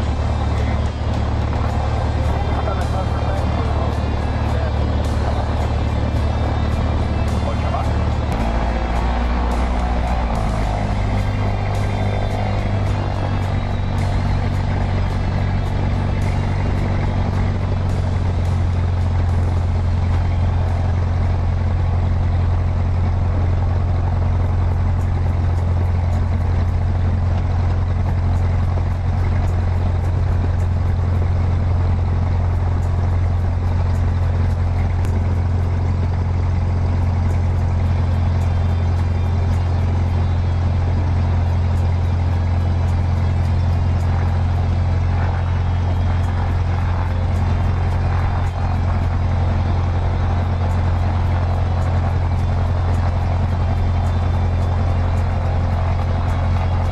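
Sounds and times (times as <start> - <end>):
small plane engine drone: 0.0 - 56.9.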